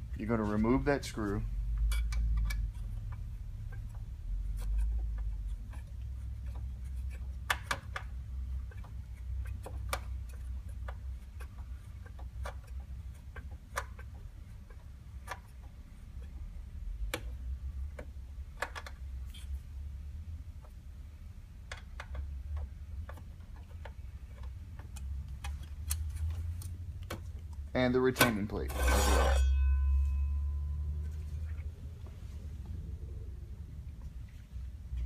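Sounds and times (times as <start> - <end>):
low steady rumble: 0.0 - 35.0.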